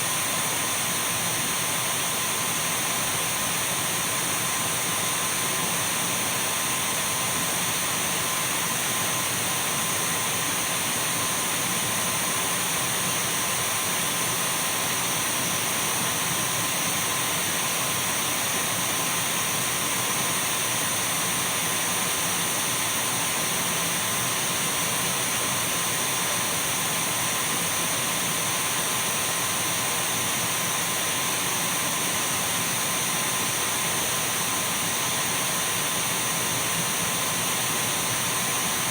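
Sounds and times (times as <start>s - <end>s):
cordless vacuum cleaner running: 0.0s - 38.9s.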